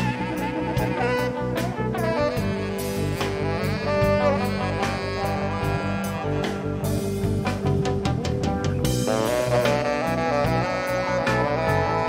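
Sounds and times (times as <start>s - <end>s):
bass: 0.0s - 12.0s
drum kit with cymbal strokes: 0.0s - 12.0s
saxophone melody: 0.0s - 12.0s.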